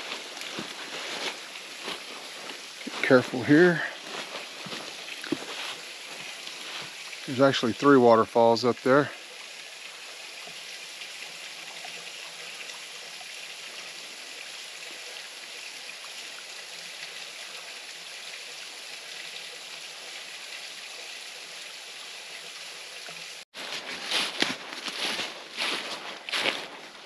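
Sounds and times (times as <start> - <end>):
small waterfall splashing: 0.0 - 26.6.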